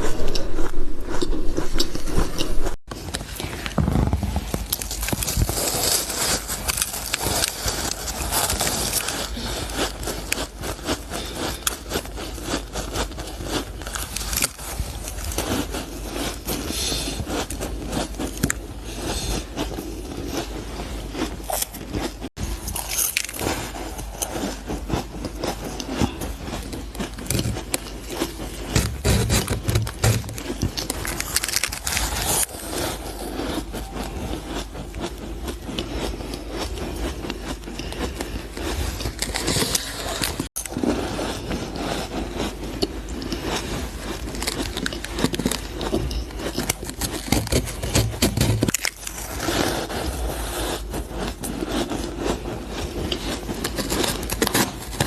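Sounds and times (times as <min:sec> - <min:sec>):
chewing ice crunches: 0:00.0 - 0:55.0.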